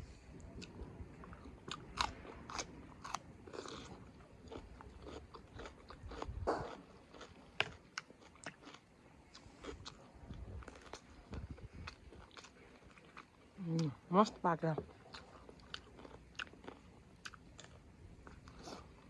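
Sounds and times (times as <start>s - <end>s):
person chewing food: 0.4s - 14.0s, 14.8s - 19.0s.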